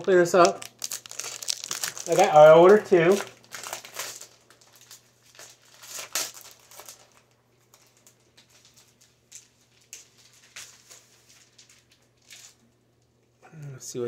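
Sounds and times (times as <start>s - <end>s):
packaging rustling: 0.0s - 12.7s.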